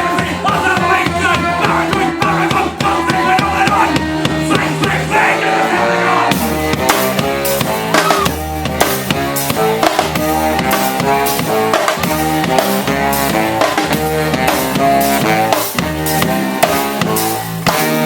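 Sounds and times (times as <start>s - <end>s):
bass guitar: 0.0s - 18.0s
drum kit beat: 0.0s - 18.0s
guitar: 0.0s - 18.0s.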